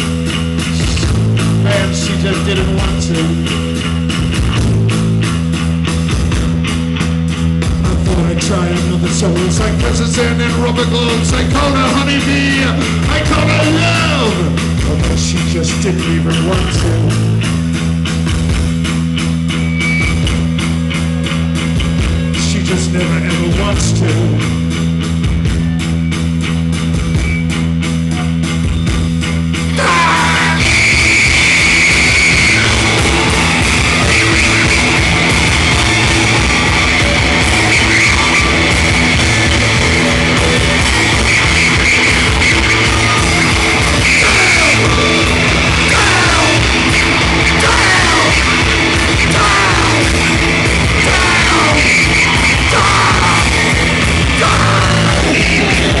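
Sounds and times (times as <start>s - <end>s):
rock band playing loud: 0.0s - 56.0s.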